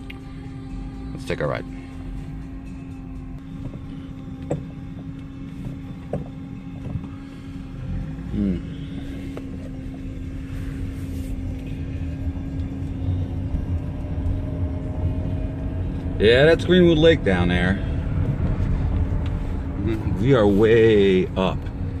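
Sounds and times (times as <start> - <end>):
car engine hum: 0.0 - 22.0
low road rumble: 0.0 - 22.0.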